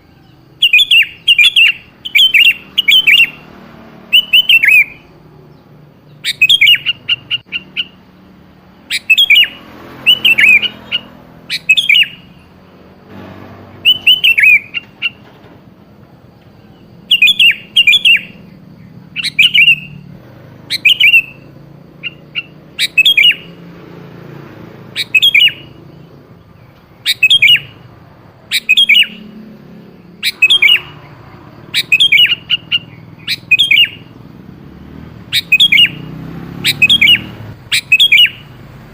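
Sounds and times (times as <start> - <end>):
bulbul calling: 0.0 - 38.9.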